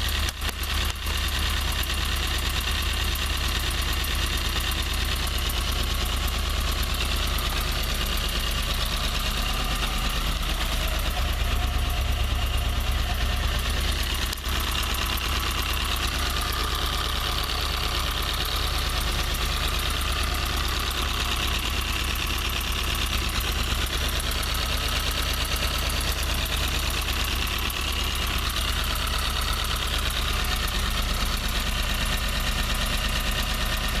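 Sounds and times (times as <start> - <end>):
car engine idling: 0.0 - 34.0
exhaust header ticking: 0.0 - 34.0.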